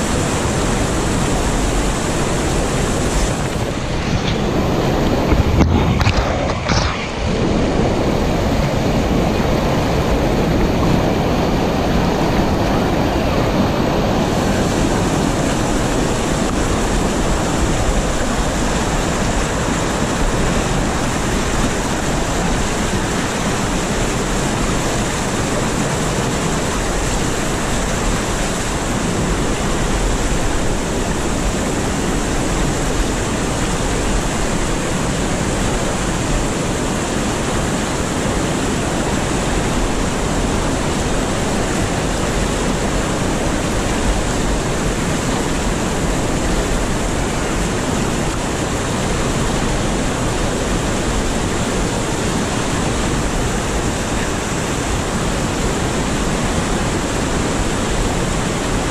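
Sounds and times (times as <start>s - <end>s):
whitewater rushing over rocks: 0.0s - 58.9s.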